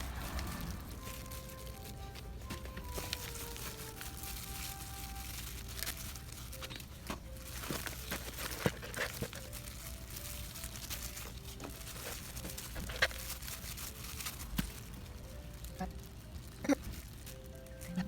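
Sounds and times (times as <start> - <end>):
crinkling and rustling: 0.0 - 18.0
soft background music: 0.0 - 18.0.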